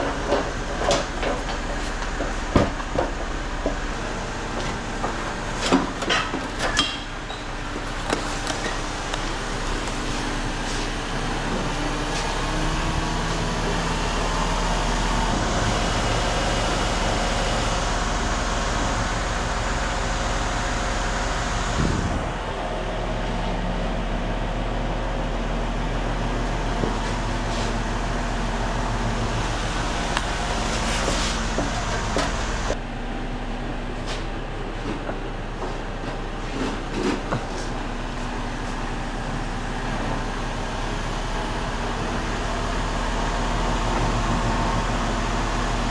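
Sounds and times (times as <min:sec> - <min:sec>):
truck engine droning: 0:00.0 - 0:45.9.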